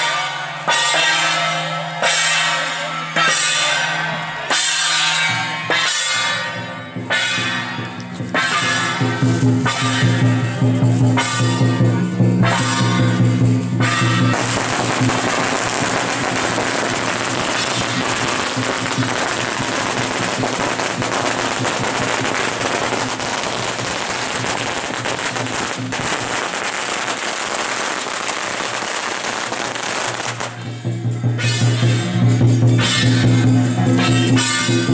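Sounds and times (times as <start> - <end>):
festive music: 0.0 - 34.9
firecrackers crackling: 0.0 - 34.9.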